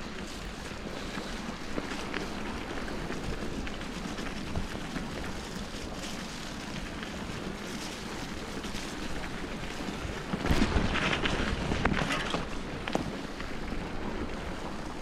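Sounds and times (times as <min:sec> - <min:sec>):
tyres rumbling on trail: 0:00.0 - 0:15.0
wind buffeting microphone: 0:00.0 - 0:15.0.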